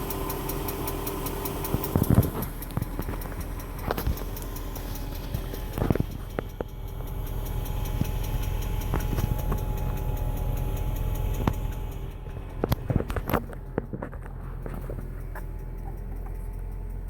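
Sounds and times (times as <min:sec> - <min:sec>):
car engine idling: 0:00.0 - 0:17.0
engine knocks: 0:00.0 - 0:17.0
fast even engine ticking: 0:00.0 - 0:17.0.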